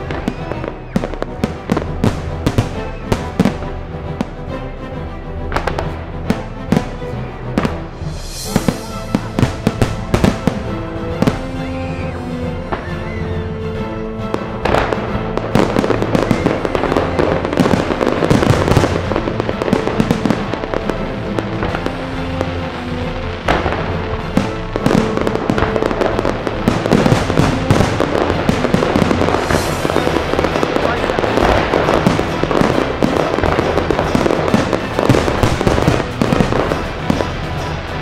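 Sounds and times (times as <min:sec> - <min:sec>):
fireworks bursting and crackling: 0:00.0 - 0:04.6, 0:05.4 - 0:38.0
music soundtrack: 0:00.0 - 0:38.0.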